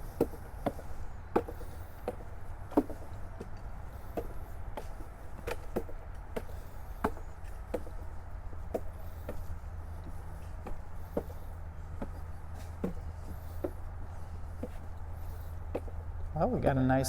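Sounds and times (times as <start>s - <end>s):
footsteps on wooden boards: 0.0s - 16.3s.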